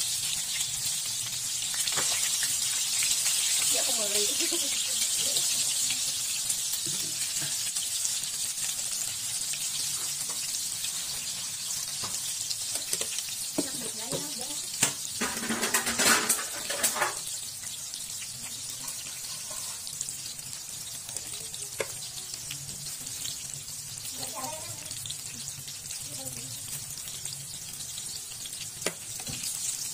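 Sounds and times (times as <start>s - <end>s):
food sizzling in oil: 0.0s - 29.9s.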